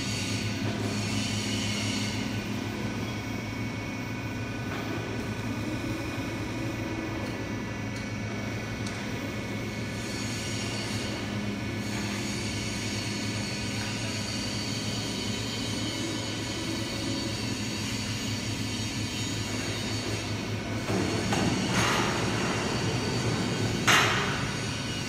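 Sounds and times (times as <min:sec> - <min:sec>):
machine humming and whining: 0:00.0 - 0:25.0.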